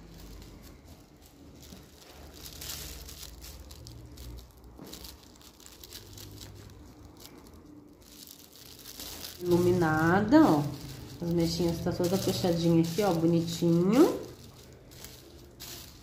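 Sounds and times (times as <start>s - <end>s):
plastic bag crinkling and rustling: 0.0s - 16.0s.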